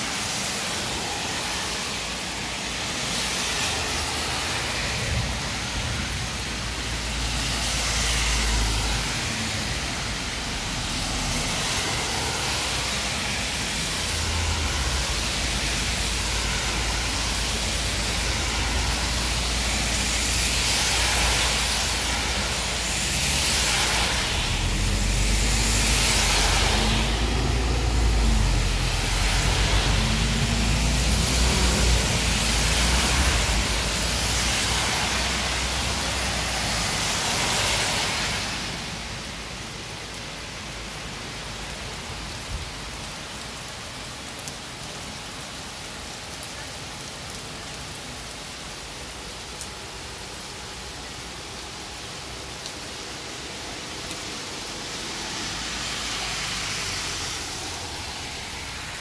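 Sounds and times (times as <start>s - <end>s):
heavy rain on road: 0.0s - 59.0s
tyres hissing on wet road: 0.0s - 59.0s.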